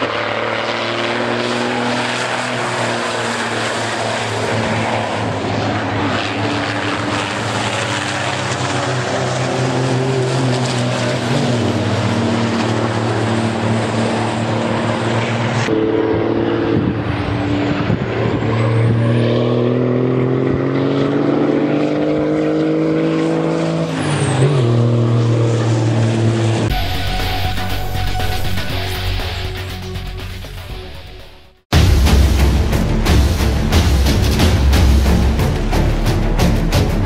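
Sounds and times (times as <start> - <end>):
racing truck diesel engines: 0.0 - 37.0.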